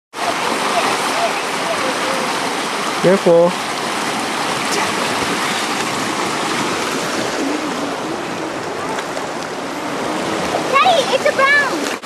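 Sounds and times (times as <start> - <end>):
creek water rushing over rocks: 0.1 - 12.0.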